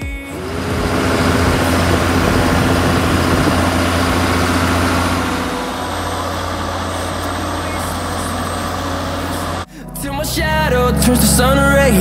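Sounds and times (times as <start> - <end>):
tractor diesel engine droning: 0.0 - 9.8.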